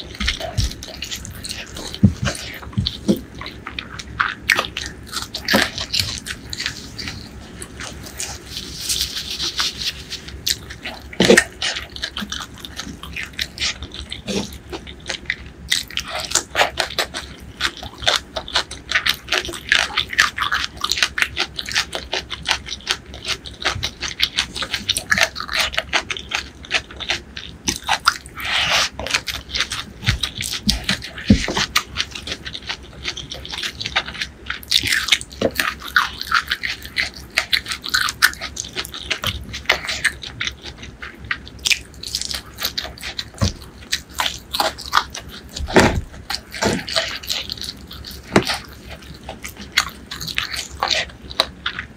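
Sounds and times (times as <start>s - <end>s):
chewing and mouth sounds: 0.0s - 51.9s
fingers squishing wet rice: 0.0s - 51.9s.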